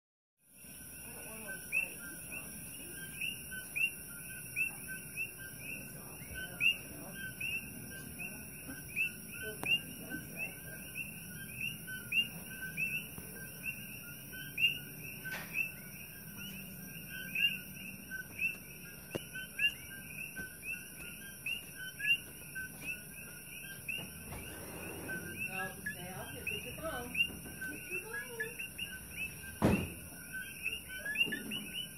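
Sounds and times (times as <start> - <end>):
frogs calling: 0.5 - 31.9.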